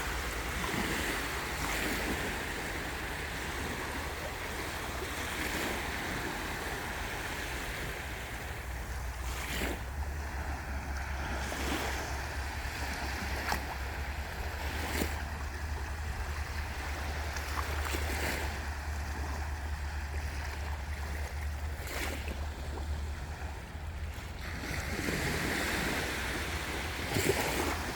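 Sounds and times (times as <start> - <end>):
sea waves on a beach: 0.0 - 27.9
wind buffeting microphone: 0.0 - 27.9.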